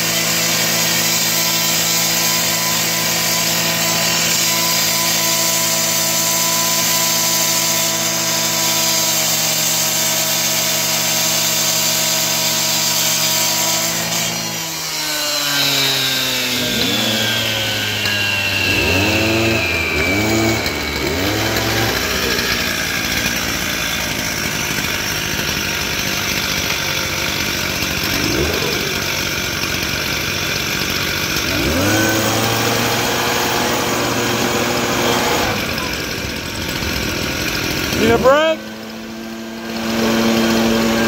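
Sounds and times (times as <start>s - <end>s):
cut-off saw cutting pavers: 0.0s - 41.0s.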